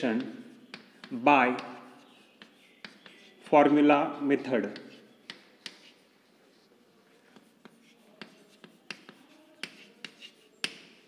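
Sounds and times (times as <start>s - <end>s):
chalk tapping on chalkboard: 0.0s - 3.8s, 4.6s - 11.0s.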